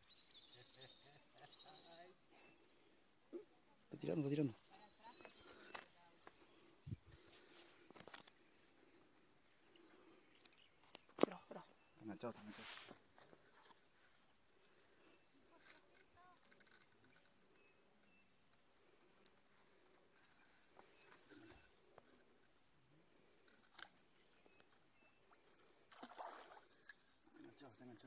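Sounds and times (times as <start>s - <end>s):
insect chirps: 0.0s - 28.0s.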